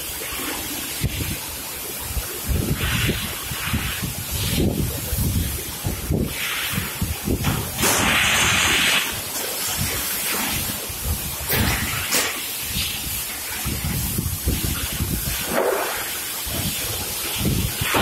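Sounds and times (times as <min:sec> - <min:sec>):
bursts of hiss: 0:00.0 - 0:18.0.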